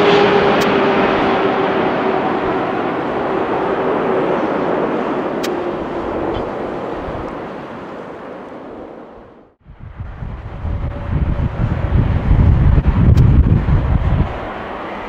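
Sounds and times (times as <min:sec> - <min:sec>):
jet engines passing: 0:00.0 - 0:15.0.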